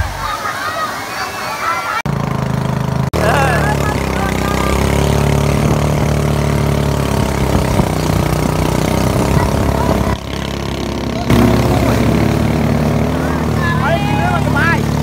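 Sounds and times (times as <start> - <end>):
rushing water: 0.0 - 15.0
motorboat engine running: 2.0 - 15.0.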